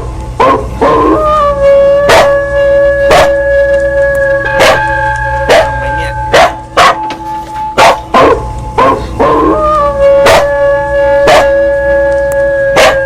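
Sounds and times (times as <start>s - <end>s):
dog howling: 0.4s - 7.1s, 7.8s - 13.0s
temple bell ringing: 2.4s - 13.0s.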